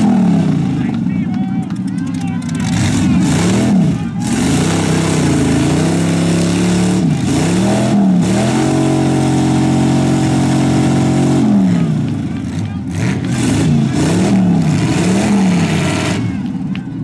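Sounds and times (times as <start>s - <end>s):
car engine revving hard: 0.0s - 1.0s, 2.6s - 16.6s.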